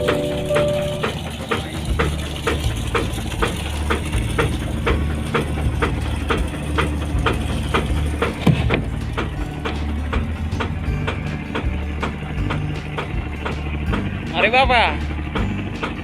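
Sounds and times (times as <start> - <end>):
background music with beat: 0.0 - 16.0
boat engine droning: 0.0 - 16.0.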